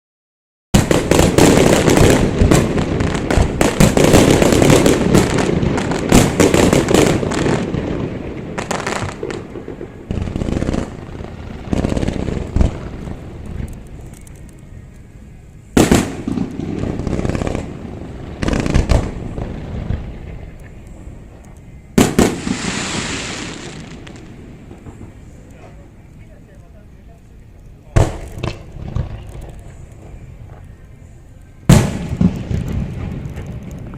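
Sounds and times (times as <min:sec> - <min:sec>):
fireworks rumble: 0:00.7 - 0:33.9.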